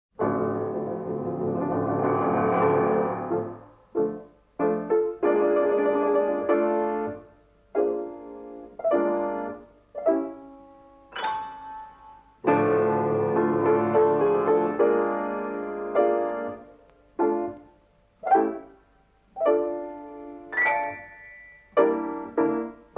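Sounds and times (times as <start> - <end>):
piano chords ringing: 0.2 - 22.9.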